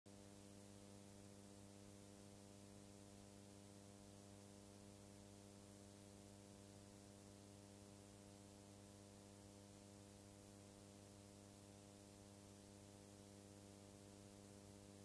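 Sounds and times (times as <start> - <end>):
faint steady hum with hiss: 0.1 - 15.0.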